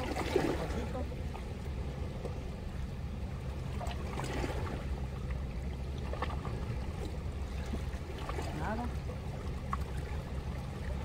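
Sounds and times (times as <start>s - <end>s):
fast-flowing river: 0.0s - 11.0s.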